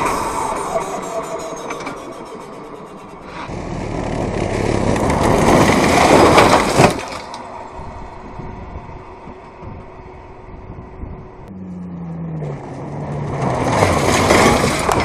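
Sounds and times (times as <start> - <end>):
rally car engine and tyres: 0.0 - 15.0.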